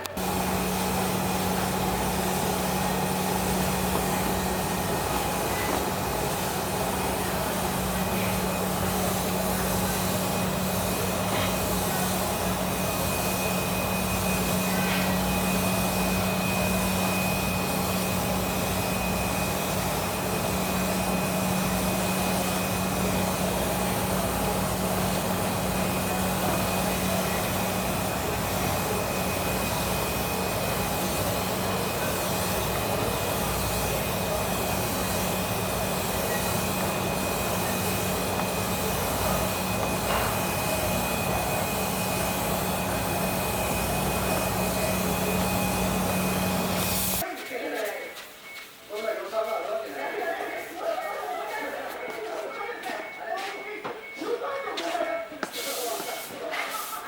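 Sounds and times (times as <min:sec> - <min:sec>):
workshop machine hissing and humming: 0:00.0 - 0:52.1, 0:55.4 - 0:57.0.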